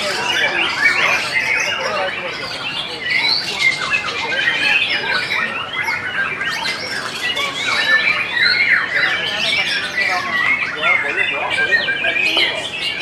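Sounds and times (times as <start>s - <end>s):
songbirds chirping and warbling: 0.0s - 13.0s.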